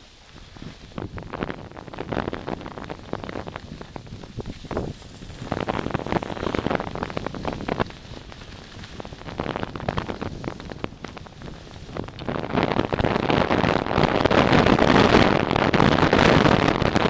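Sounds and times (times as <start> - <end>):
skis scraping over snow: 0.0 - 17.0
wind buffeting microphone: 0.0 - 17.0.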